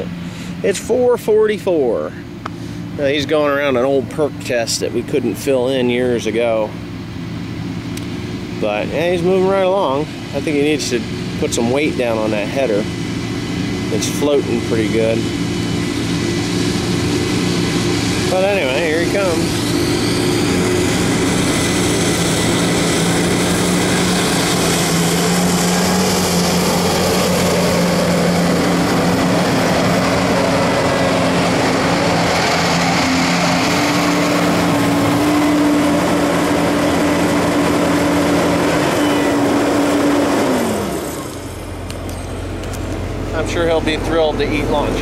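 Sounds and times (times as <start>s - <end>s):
windrower engine droning: 0.0s - 45.0s.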